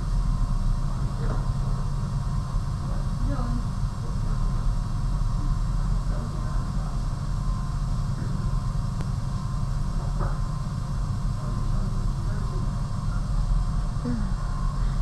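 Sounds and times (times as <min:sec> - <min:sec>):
low room rumble: 0:00.0 - 0:15.0.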